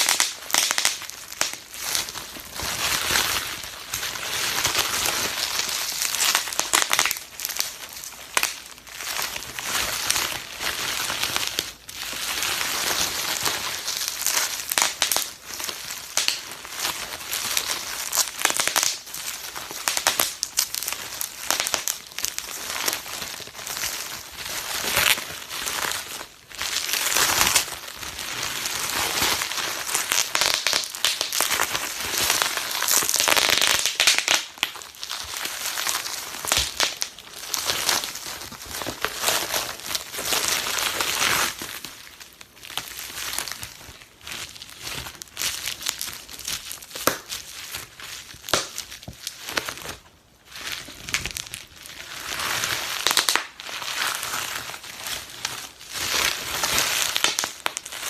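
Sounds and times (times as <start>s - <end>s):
bubble wrap popping: 0.0s - 58.0s
crinkling plastic: 0.0s - 58.0s.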